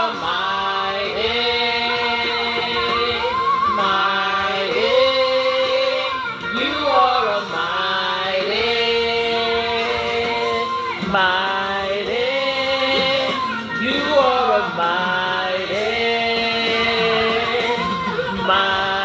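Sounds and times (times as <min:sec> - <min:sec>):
worship singing through speaker: 0:00.0 - 0:19.0.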